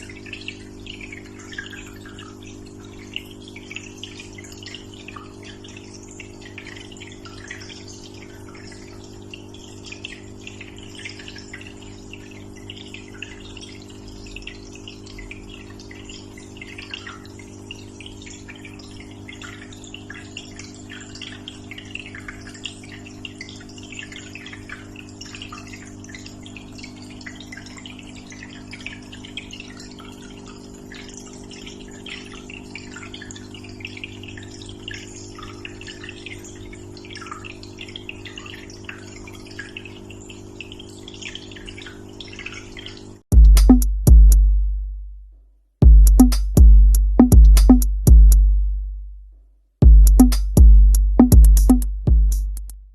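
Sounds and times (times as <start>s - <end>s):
pump humming: 0.0s - 44.3s
aquarium water trickling and bubbling: 0.0s - 44.6s.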